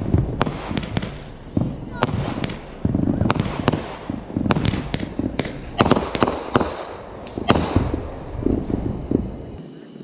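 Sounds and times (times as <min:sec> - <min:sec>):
fireworks bangs and cracks: 0:00.0 - 0:09.6.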